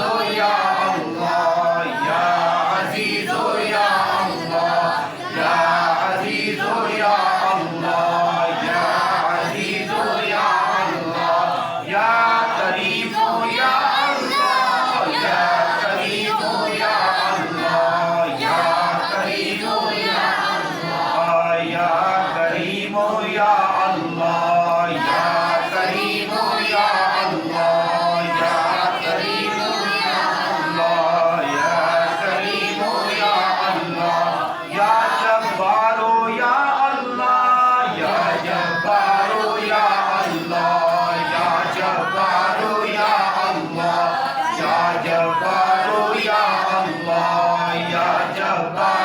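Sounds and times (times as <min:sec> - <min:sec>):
congregation chanting: 0:00.0 - 0:49.0.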